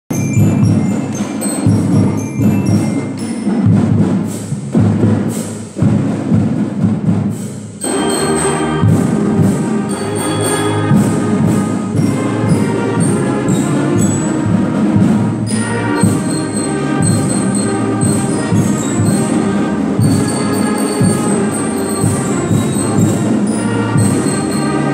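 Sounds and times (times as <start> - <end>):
concert band playing: 0.1 - 24.9
drum strokes: 0.1 - 24.9.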